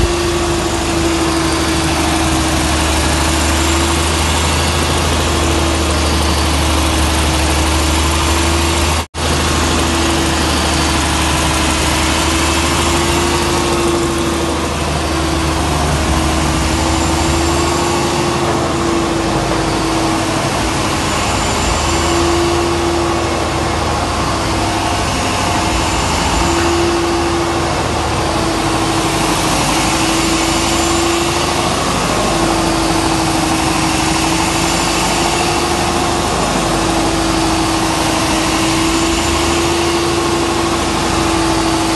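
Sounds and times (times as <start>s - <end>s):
generator engine running: 0.0s - 41.9s.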